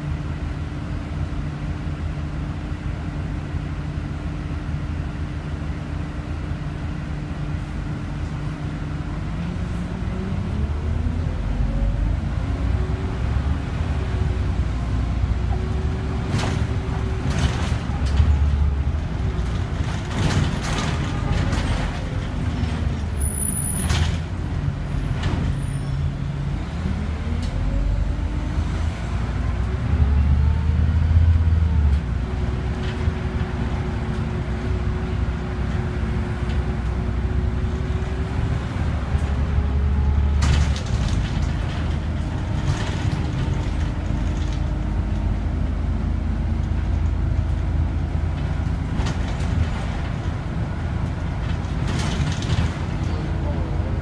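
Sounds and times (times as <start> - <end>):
bus engine: 0.0 - 54.0
low road rumble: 0.0 - 54.0.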